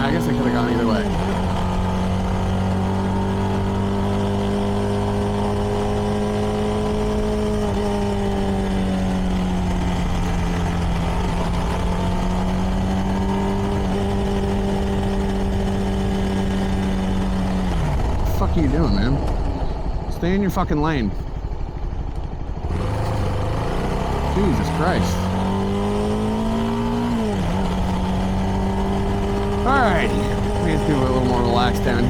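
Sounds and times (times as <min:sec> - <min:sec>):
motorcycle engine cruising: 0:00.0 - 0:32.0
wind and road rumble: 0:00.0 - 0:32.0.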